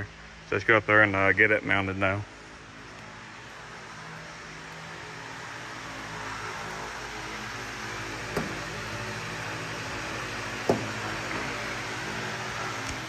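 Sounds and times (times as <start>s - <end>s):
fan whirring: 0.0s - 13.0s.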